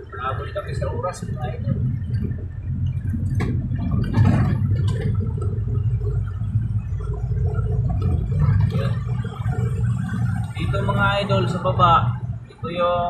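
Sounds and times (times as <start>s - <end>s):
vehicle engine and tyres rumbling: 0.0s - 13.0s.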